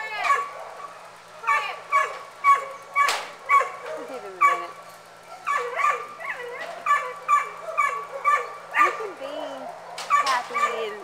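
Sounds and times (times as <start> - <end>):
dog barking in high yaps: 0.1 - 4.7, 5.4 - 9.0, 10.0 - 11.0.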